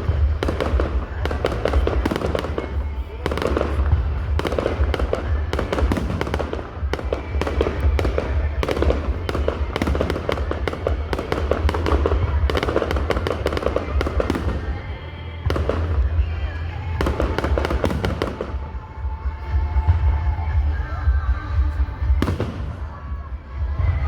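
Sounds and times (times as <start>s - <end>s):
deep rumble: 0.0s - 24.0s
fireworks crackling and banging: 0.0s - 24.0s.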